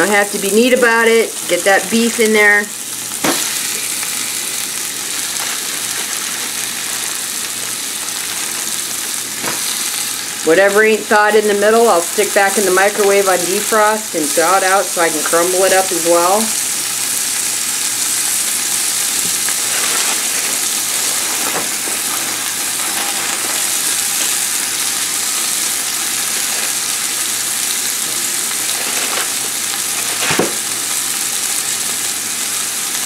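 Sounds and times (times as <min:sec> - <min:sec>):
beef and onions sizzling in oil: 0:00.0 - 0:33.0.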